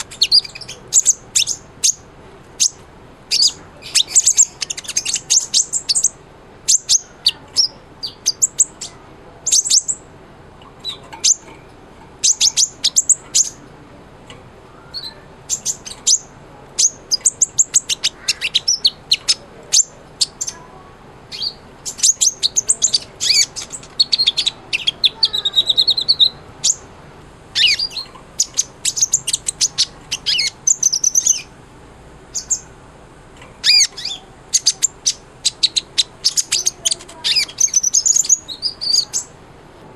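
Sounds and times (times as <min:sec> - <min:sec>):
sunbird chirps and trills: 0:00.0 - 0:13.7, 0:14.7 - 0:26.9, 0:27.5 - 0:31.6, 0:32.3 - 0:32.8, 0:33.6 - 0:39.4.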